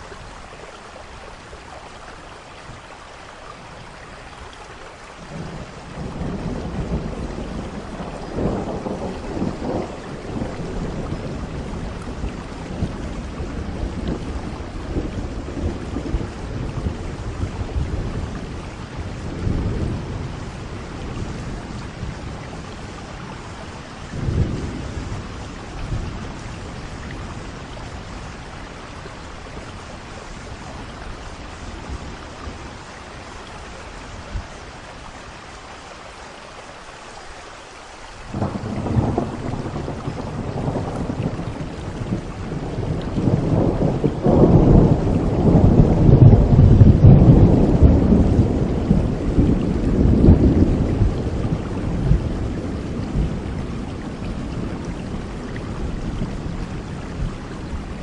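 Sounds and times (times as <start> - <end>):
heavy rain: 0.0 - 58.0
rolling thunder: 5.3 - 33.4, 38.3 - 58.0.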